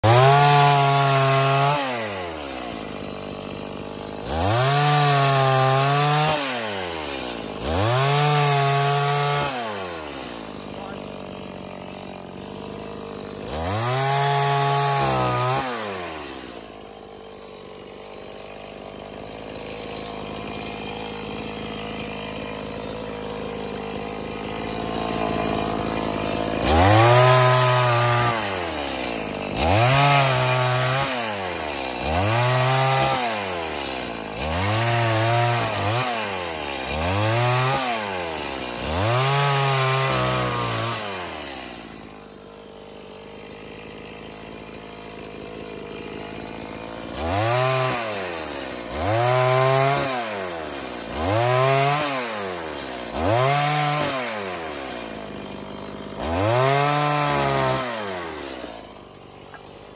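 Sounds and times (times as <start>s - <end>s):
chainsaw cutting logs: 0.0s - 59.9s
chainsaw idling: 0.0s - 59.9s.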